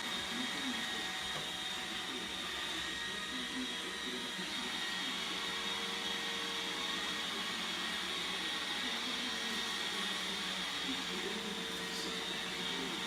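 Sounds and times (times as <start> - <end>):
robot vacuum whirring: 0.0 - 13.0.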